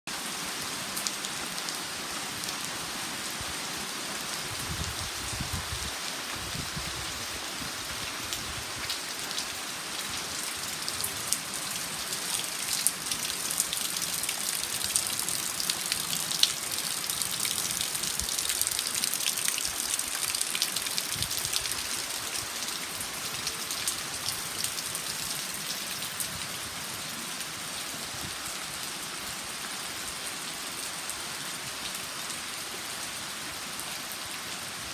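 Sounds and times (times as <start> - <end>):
heavy rain on water and foliage: 0.1 - 34.9.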